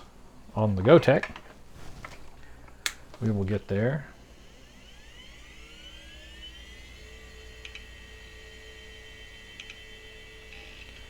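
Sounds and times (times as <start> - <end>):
low steady hum: 0.0 - 11.0
computer fan whine rising: 0.6 - 11.0.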